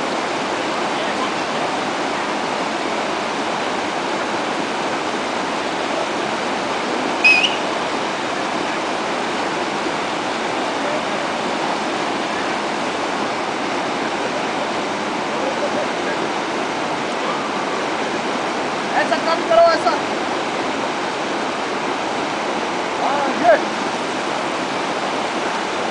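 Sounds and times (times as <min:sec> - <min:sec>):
river rushing over rocks: 0:00.0 - 0:25.9.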